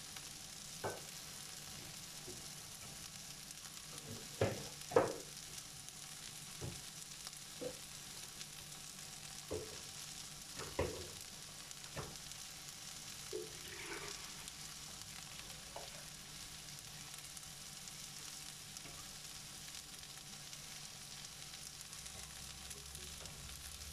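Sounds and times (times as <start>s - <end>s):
vegetables sizzling in a pan: 0.0s - 23.9s.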